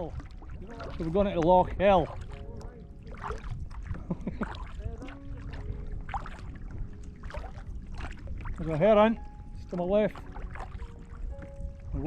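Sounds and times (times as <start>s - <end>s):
low wind rumble on microphone: 0.0s - 12.0s
paddle strokes dripping: 0.0s - 12.0s
water lapping at hull: 0.0s - 12.0s.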